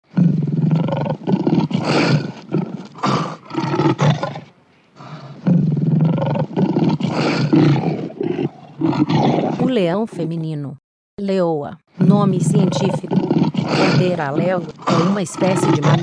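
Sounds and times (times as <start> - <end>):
lion roaring: 0.0 - 9.7, 12.0 - 16.0.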